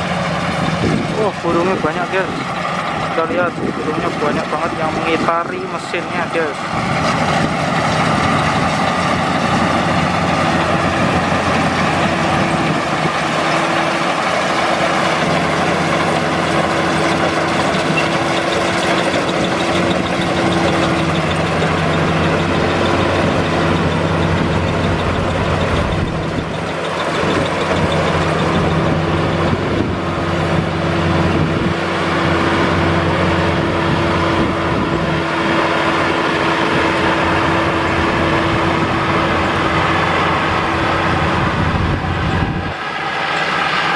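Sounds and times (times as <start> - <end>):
combine harvester engine hum: 0.0 - 43.9.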